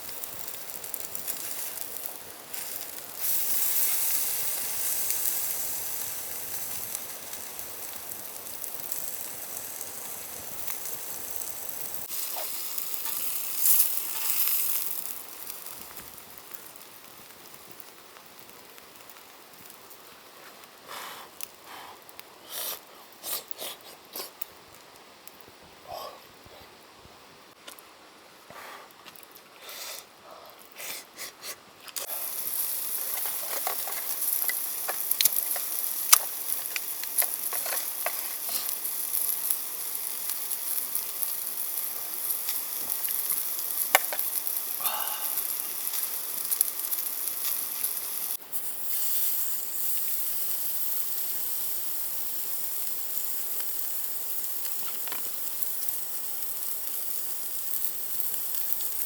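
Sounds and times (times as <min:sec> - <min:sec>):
pops and crackles: 0:00.0 - 0:20.7, 0:30.6 - 0:59.0
food sizzling: 0:00.0 - 0:25.4, 0:31.8 - 0:59.0.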